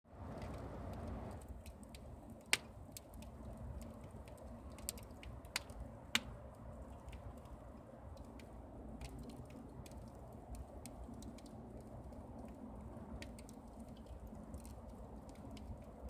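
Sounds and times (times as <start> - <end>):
campfire crackling: 0.2 - 16.0.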